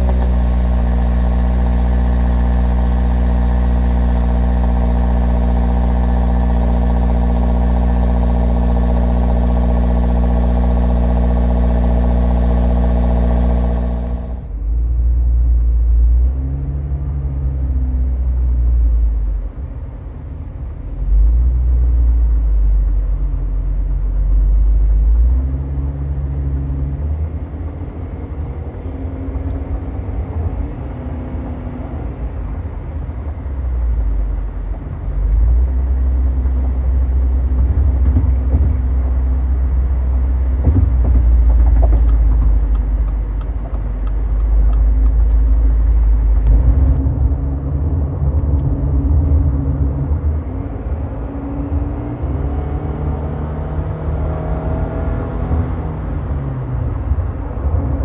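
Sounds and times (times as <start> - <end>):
car exhaust drone from cabin: 0.0 - 58.0.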